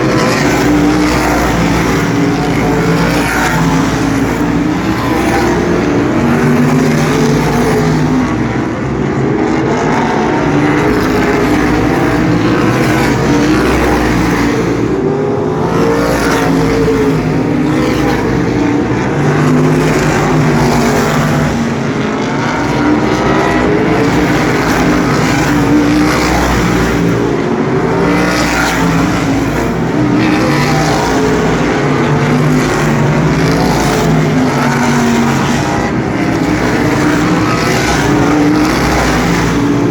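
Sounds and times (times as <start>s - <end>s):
race car engines roaring: 0.0s - 39.9s.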